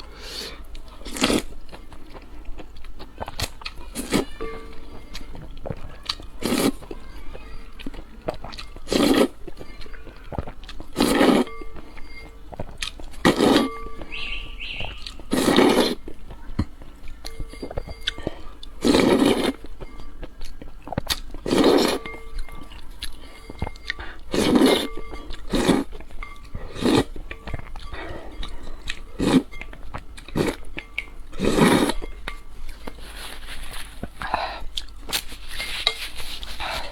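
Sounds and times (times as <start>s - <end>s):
loud eating mouthfuls: 0.0s - 36.9s
quiet chewing: 0.0s - 36.9s.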